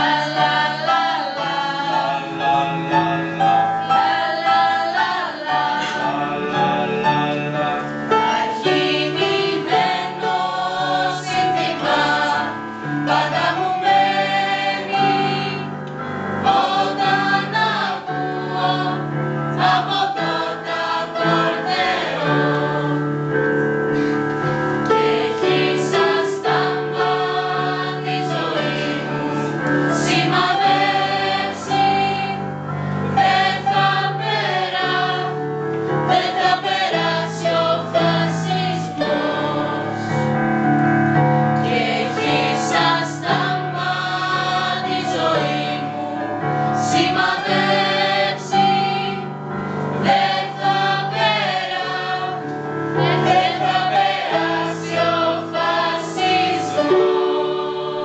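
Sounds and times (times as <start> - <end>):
group singing in unison: 0.0 - 40.4, 41.4 - 58.0
digital piano accompaniment: 0.0 - 58.0.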